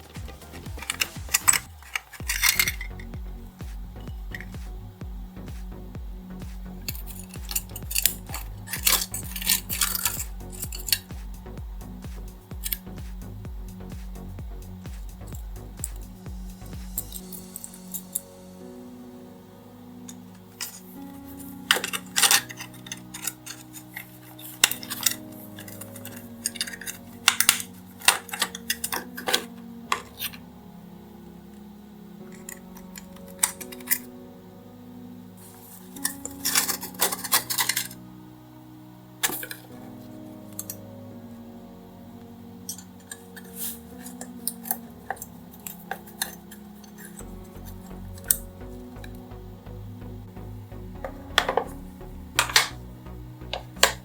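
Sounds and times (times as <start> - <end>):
background music with steady beat: 0.0 - 54.0.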